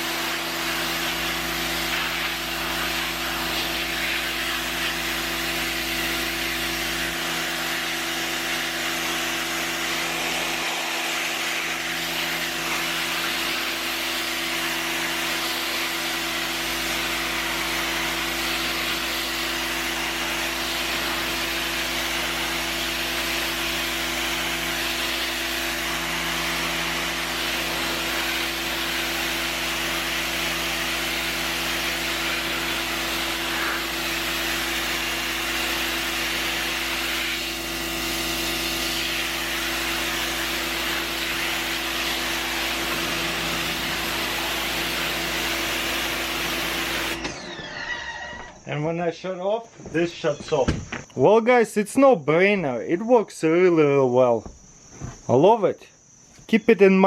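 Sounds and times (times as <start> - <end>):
high-pressure water jet hissing: 0.0 - 47.3
electric motor-pump hum: 0.0 - 48.6.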